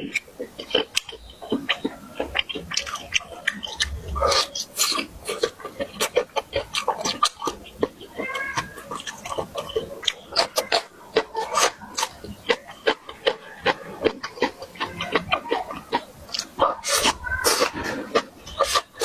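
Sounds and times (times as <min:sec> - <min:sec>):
chewing with lip-smacking: 0:00.0 - 0:19.0
mouth clicks: 0:00.0 - 0:19.0.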